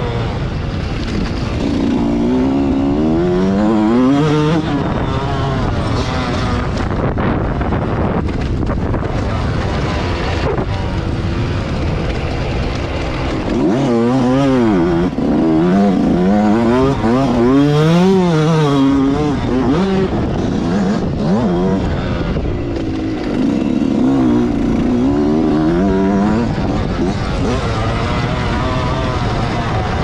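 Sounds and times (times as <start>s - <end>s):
motocross bike engine revving: 0.0s - 30.0s
steady noisy rush: 0.0s - 30.0s.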